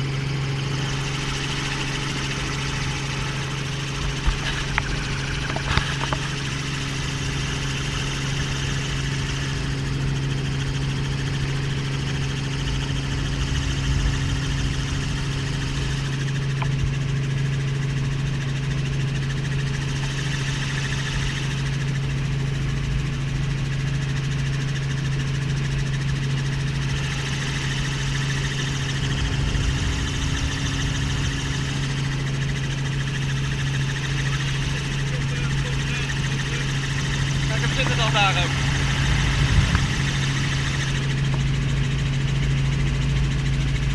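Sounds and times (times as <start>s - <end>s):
helicopter engine drone: 0.0s - 43.9s.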